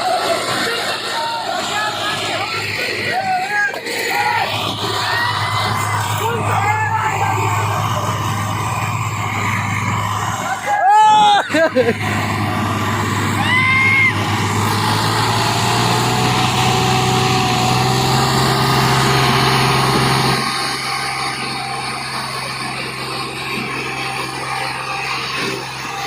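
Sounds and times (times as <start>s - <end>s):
diesel tractor engines droning: 0.0s - 26.0s.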